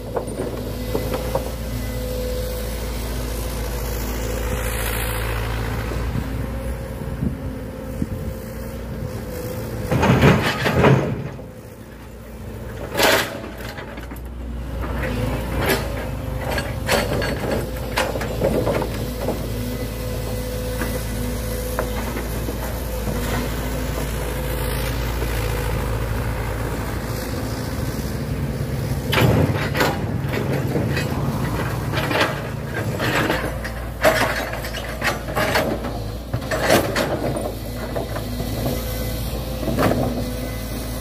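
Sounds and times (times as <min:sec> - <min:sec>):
excavator engine running: 0:00.0 - 0:41.0.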